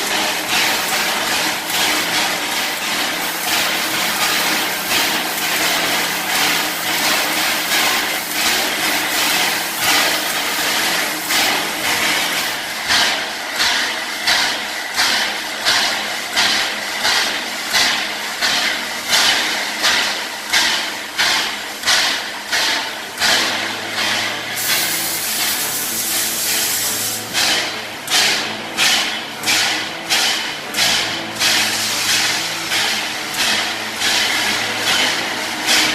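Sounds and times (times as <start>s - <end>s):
steam hissing: 0.0s - 17.2s, 21.2s - 35.9s
steam locomotive chuffing: 0.0s - 35.9s.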